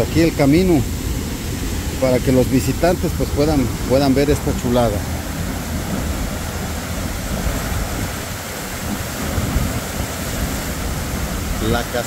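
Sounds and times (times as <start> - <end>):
waterfall rushing: 0.0 - 12.0
wind noise on microphone: 0.0 - 12.0.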